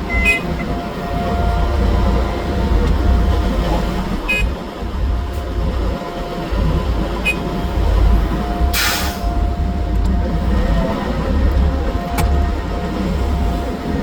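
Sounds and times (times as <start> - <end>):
diesel engine low rumble: 0.0 - 14.0.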